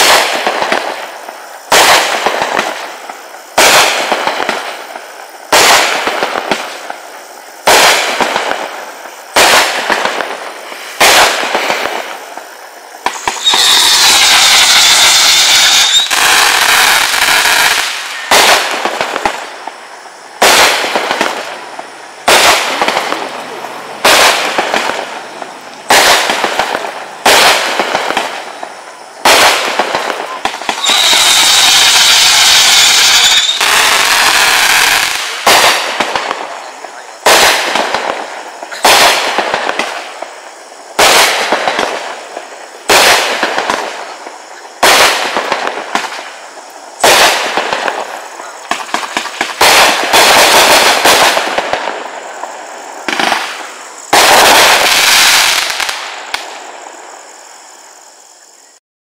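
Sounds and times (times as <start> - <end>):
single firework shots: 0.0 - 57.4
fireworks volley: 0.0 - 58.8.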